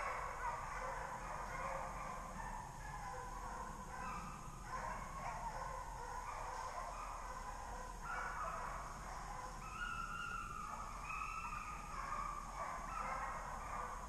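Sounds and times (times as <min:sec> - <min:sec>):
hounds baying: 0:00.0 - 0:14.0.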